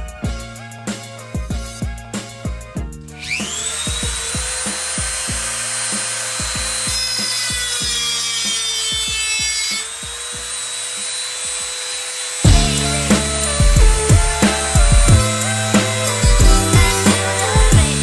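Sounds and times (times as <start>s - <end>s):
music with drum beat: 0.0s - 10.7s, 12.5s - 18.0s
rotary tool whining: 3.1s - 18.0s.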